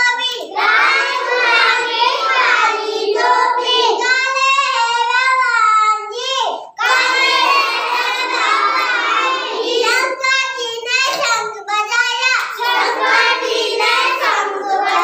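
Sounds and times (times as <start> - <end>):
child singing unaccompanied: 0.0 - 15.0.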